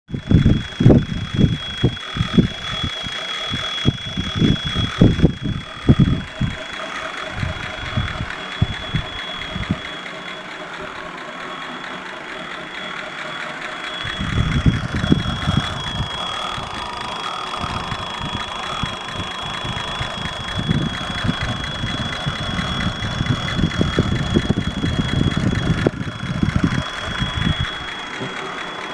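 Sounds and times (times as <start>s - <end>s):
engine idling rumble: 0.1s - 28.9s
high-pitched whistle: 0.1s - 28.9s.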